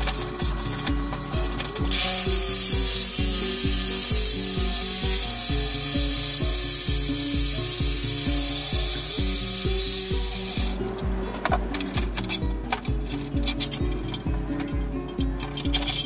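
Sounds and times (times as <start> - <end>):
jigsaw cutting steel: 0.0 - 14.7
background music with beat: 0.0 - 16.0.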